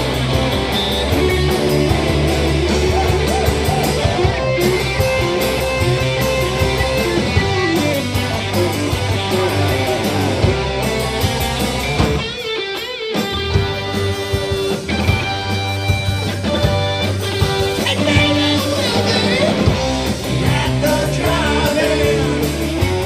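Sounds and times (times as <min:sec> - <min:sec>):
bass guitar: 0:00.0 - 0:23.0
drums with cymbal ticks: 0:00.0 - 0:23.0
electric guitar: 0:00.0 - 0:23.0.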